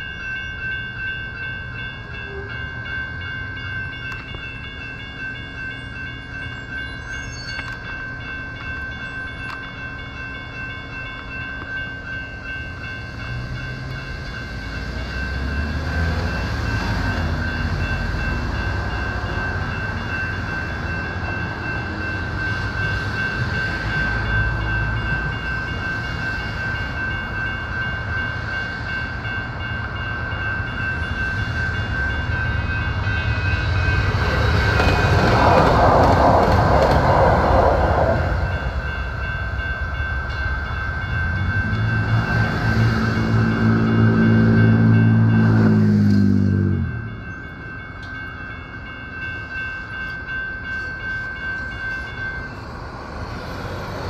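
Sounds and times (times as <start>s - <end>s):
railroad crossing bell ringing: 0.0s - 54.0s
train rumble: 0.0s - 54.0s.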